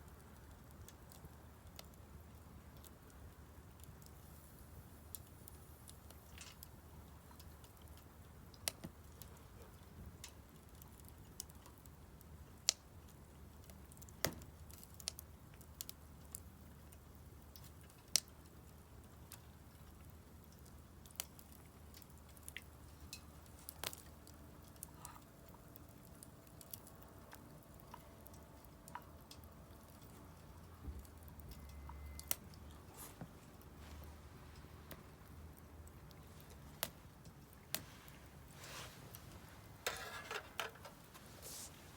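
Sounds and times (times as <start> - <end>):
firewood crackling and popping: 0.0 - 41.9
low steady background: 0.0 - 41.9.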